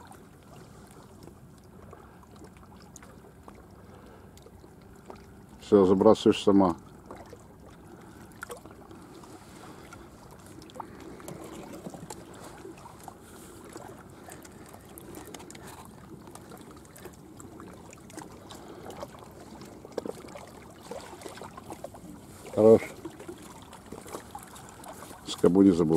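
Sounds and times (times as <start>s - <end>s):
water lapping at shore: 0.0s - 25.9s.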